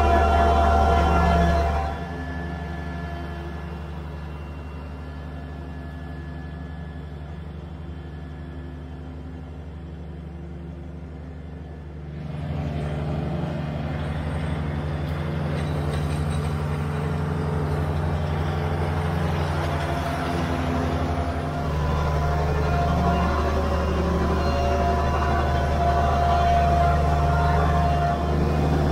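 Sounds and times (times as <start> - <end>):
tractor engine hum: 0.0 - 28.9.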